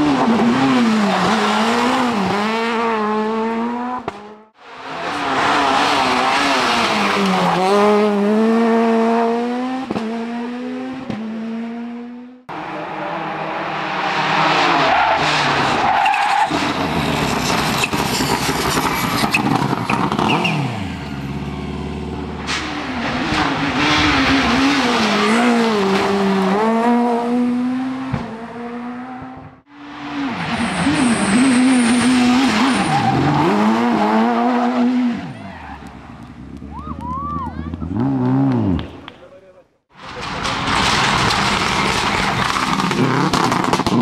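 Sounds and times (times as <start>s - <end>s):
rally car engine revving: 0.0s - 36.7s, 37.6s - 39.0s, 40.1s - 44.0s.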